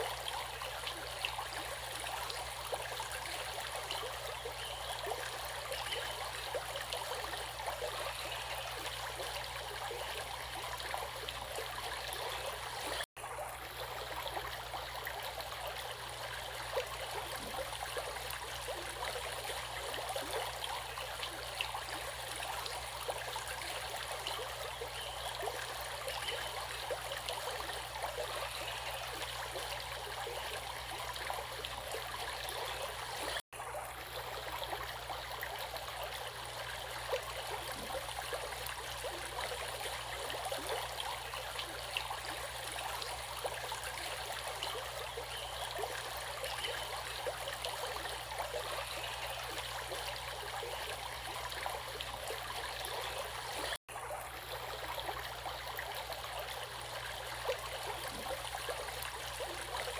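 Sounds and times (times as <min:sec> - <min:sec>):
stream water flowing and splashing: 0:00.0 - 0:59.9.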